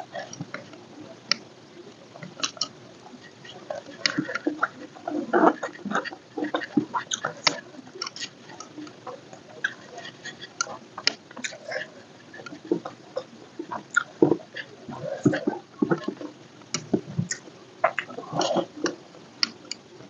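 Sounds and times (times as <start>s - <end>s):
mouth clicks and smacks: 0.1s - 19.9s.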